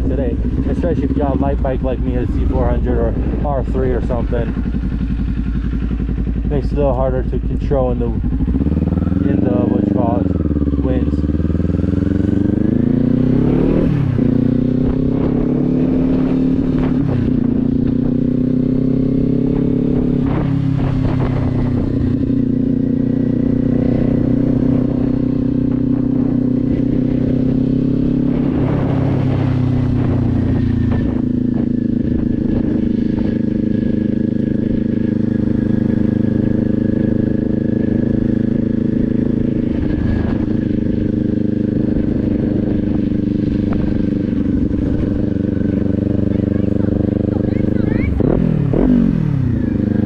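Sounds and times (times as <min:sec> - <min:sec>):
motorcycle engine running: 0:00.0 - 0:50.0
wind rumbling on microphone: 0:00.0 - 0:50.0.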